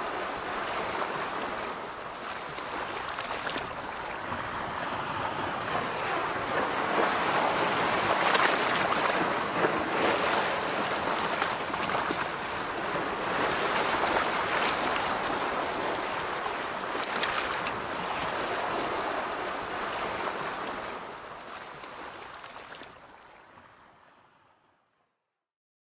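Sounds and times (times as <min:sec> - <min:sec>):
ocean surf washing onto beach: 0:00.0 - 0:23.6.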